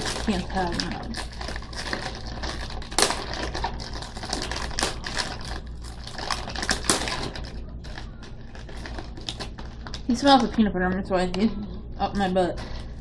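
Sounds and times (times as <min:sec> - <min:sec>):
plastic package crinkling: 0:00.0 - 0:10.6.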